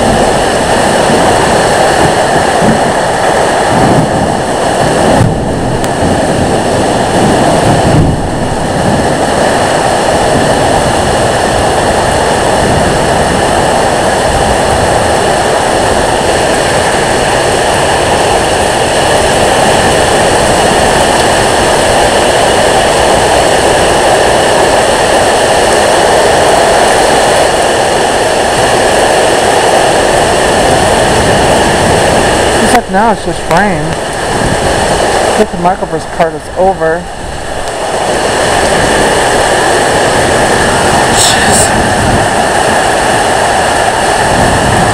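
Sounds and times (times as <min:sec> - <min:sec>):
heavy rain: 0:00.0 - 0:44.9
wind roaring: 0:00.0 - 0:44.9.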